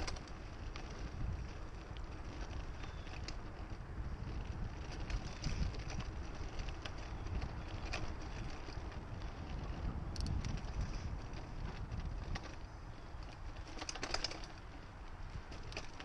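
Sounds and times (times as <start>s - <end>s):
bike clicks and rattles: 0.0s - 16.0s
tyres rumbling over dirt: 0.0s - 16.0s
wind buffeting microphone: 0.0s - 16.0s.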